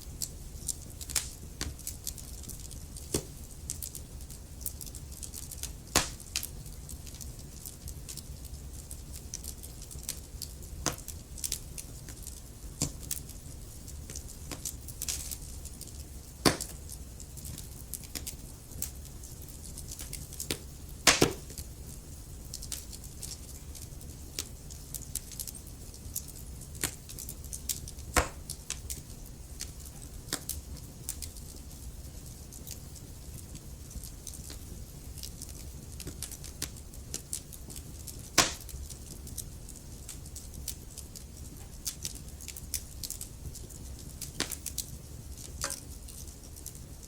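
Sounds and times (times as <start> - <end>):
fire crackling and popping: 0.0 - 47.0
low rumble of flames: 0.0 - 47.0.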